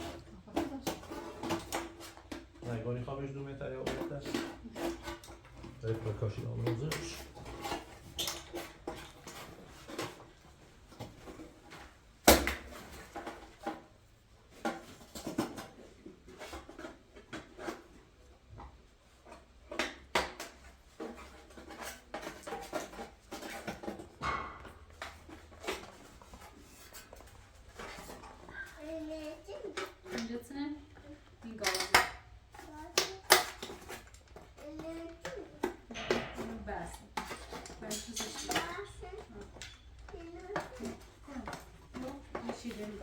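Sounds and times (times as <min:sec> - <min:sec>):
parts and tools clattering: 0:00.0 - 0:43.0.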